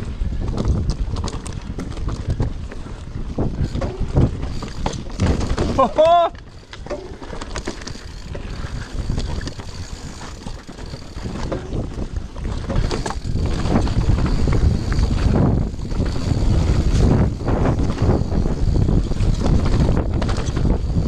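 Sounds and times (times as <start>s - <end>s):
bike knocks and rattles: 0.0s - 21.0s
tyre rumble: 0.0s - 21.0s
wind rushing over microphone: 0.0s - 21.0s.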